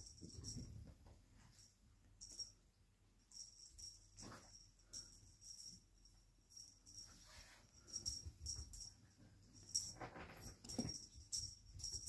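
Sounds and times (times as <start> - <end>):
small bell jingling: 0.0 - 2.6, 3.2 - 12.0.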